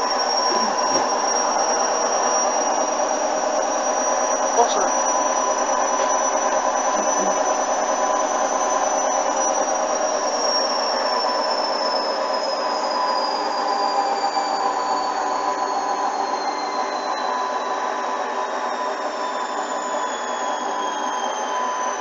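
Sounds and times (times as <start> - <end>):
high whine falling in pitch: 0.0 - 22.0
washing machine running: 0.0 - 22.0.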